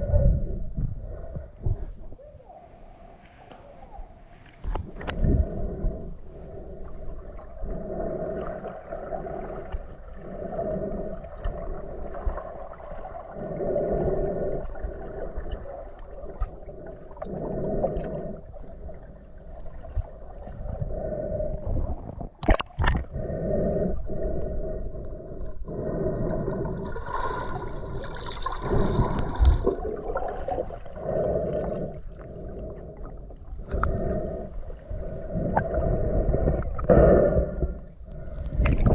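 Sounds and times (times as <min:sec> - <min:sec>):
underwater water gurgling: 0:00.0 - 0:38.9.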